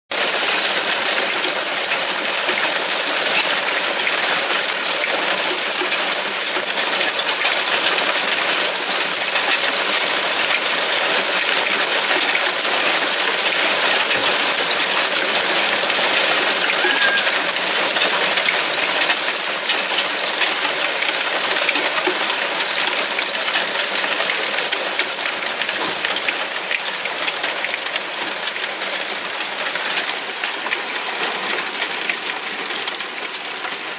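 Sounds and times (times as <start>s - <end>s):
hail rattling on cars: 0.1s - 33.9s.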